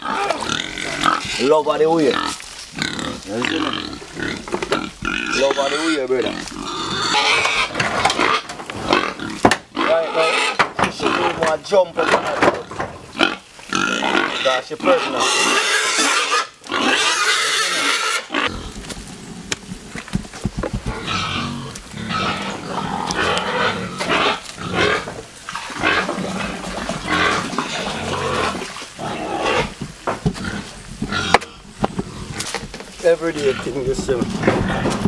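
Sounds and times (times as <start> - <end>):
pigs squealing and grunting: 0.0 - 19.9, 20.8 - 35.0.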